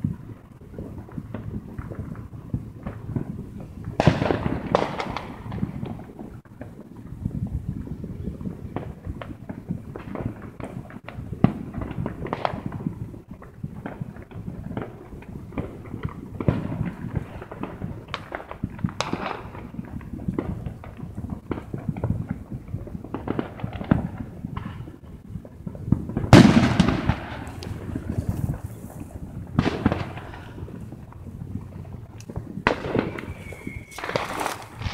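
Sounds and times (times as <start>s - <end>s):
fireworks popping and banging: 0.0s - 34.9s.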